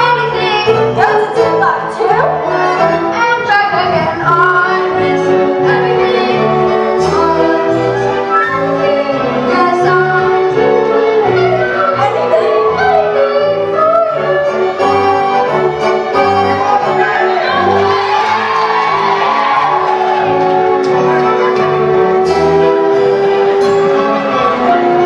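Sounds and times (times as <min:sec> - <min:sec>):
pit orchestra playing show tune: 0:00.0 - 0:25.0.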